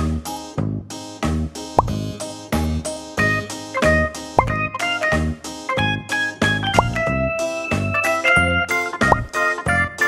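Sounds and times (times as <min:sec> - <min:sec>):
playful background music: 0:00.0 - 0:10.0.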